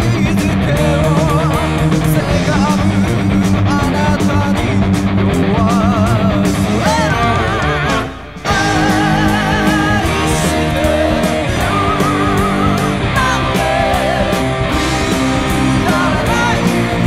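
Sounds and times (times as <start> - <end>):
electric guitar melodic line: 0.0 - 17.0
progressive rock backing track: 0.0 - 17.0.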